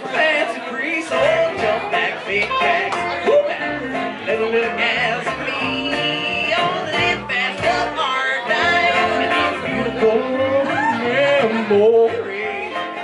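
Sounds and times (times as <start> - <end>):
live country band playing: 0.0 - 13.0.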